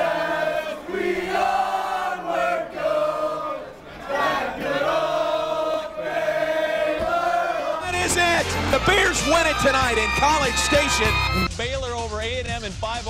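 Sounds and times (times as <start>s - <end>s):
crowd chanting: 0.0s - 11.5s.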